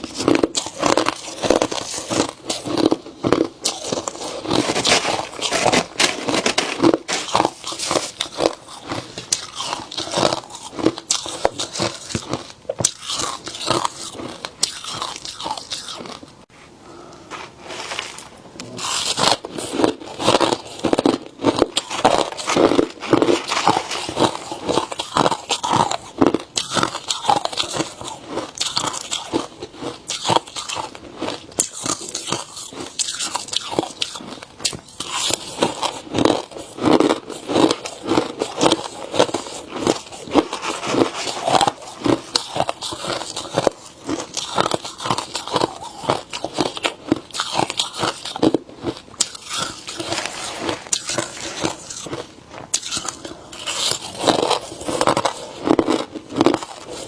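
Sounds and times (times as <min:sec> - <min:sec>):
ice being chewed: 0:00.0 - 0:16.3, 0:18.6 - 0:57.0.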